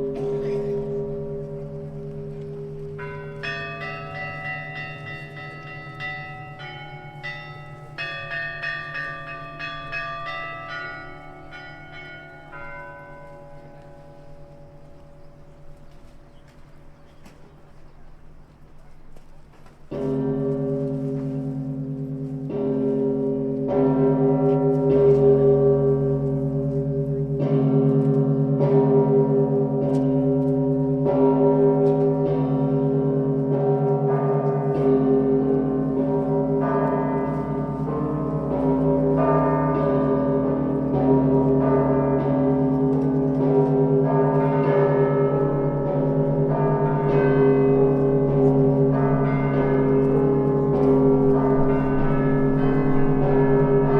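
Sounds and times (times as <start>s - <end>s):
deep church bells ringing: 0.0s - 53.9s.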